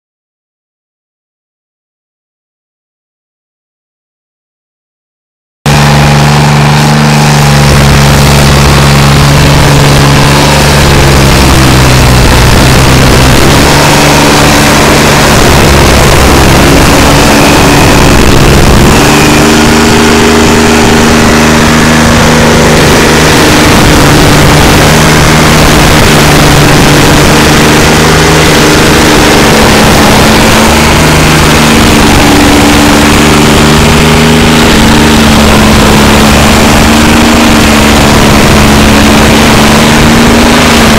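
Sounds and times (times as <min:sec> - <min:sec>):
stump grinder engine running: 0:05.7 - 0:40.9.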